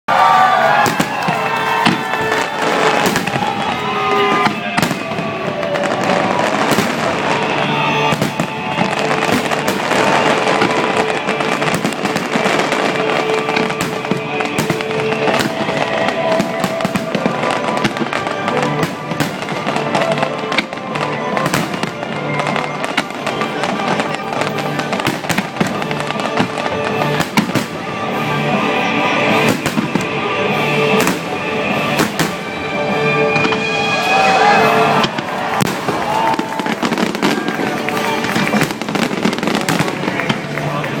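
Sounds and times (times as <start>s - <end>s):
fireworks bursting: 0.1s - 41.0s
music playing: 0.1s - 41.0s.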